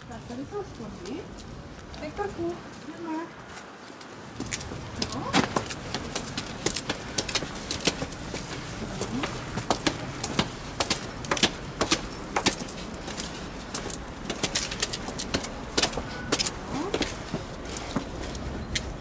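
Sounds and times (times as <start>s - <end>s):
footsteps on stone steps: 0.0s - 19.0s
outdoor background noise: 0.0s - 19.0s.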